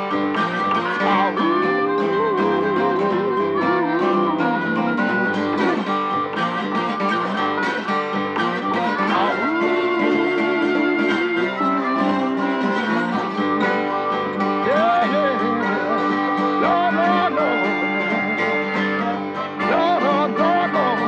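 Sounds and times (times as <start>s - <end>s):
country music with plucked guitar: 0.0s - 21.0s.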